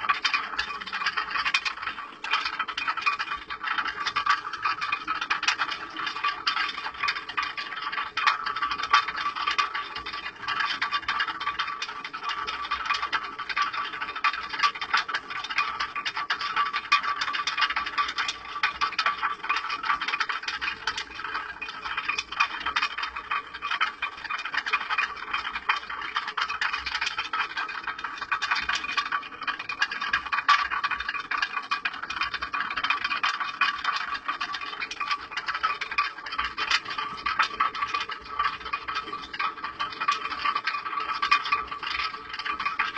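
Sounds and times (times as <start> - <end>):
stone mill rattling clatter: 0.0 - 42.9.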